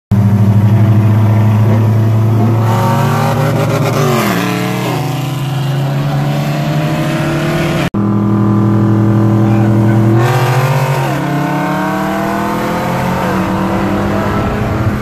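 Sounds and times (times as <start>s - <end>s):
engines accelerating hard: 0.2s - 15.0s.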